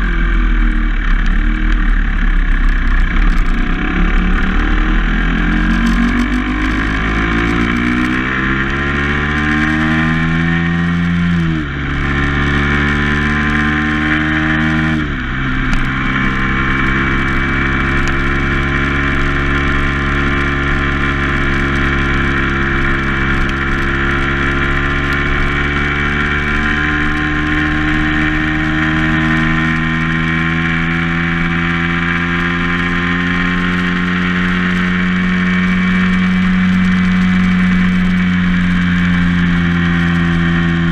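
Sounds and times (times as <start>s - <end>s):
vehicle engine accelerating through gears: 0.0s - 40.9s.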